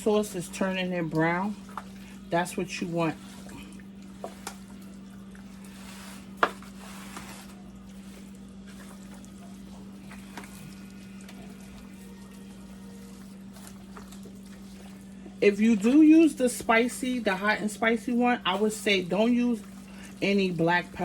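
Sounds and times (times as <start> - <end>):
low electrical hum: 0.0 - 21.0
hands squishing wet meat: 0.4 - 17.0, 18.5 - 20.5.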